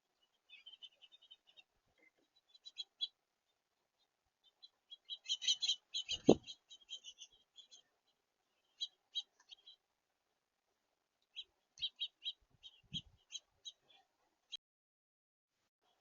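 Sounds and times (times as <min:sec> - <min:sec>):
songbirds chirping: 0:00.0 - 0:14.6.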